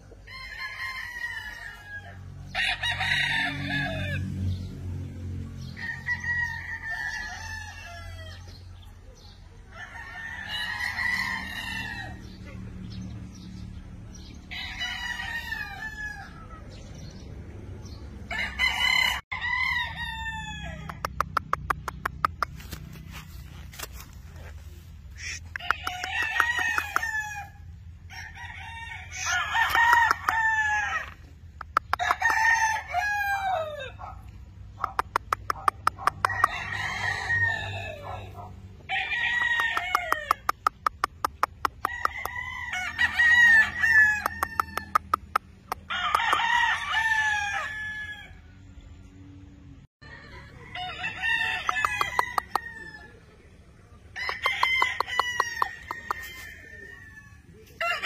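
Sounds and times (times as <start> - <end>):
roosters crowing: 0.0 - 58.0.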